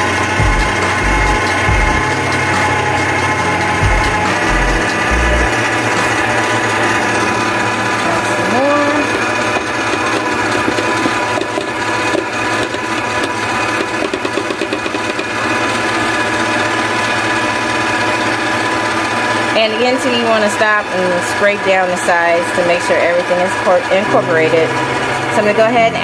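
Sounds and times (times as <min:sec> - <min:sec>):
stand mixer beating dough: 0:00.0 - 0:26.0.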